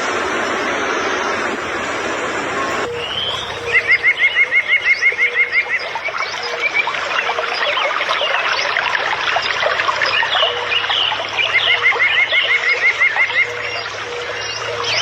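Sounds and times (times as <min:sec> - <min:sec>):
birds chirping in chorus: 0:00.0 - 0:15.0
rapid repeated bird notes: 0:00.0 - 0:15.0.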